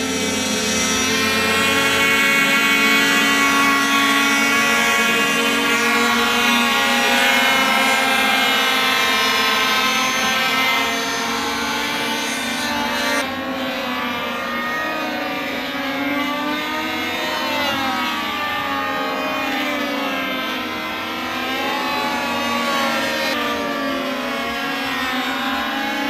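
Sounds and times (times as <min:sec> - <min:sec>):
model airplane engines: 0:00.0 - 0:26.0.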